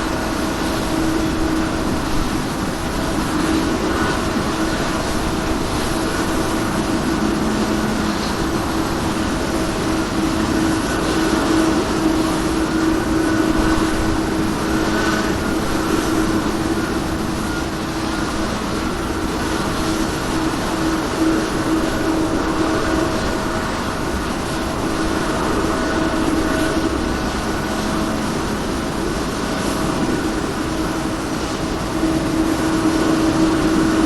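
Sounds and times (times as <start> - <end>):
jet engines humming: 0.0 - 34.0.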